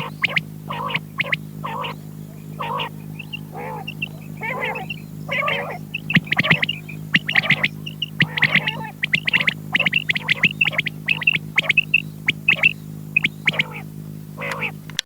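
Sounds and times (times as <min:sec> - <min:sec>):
quail chirping: 0:00.0 - 0:14.8
electrical hum: 0:00.0 - 0:15.0.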